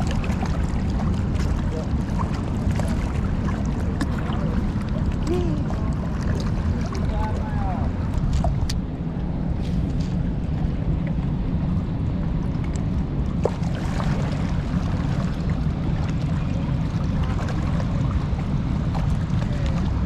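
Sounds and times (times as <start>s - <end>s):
turbulent river water roaring: 0.0s - 20.0s.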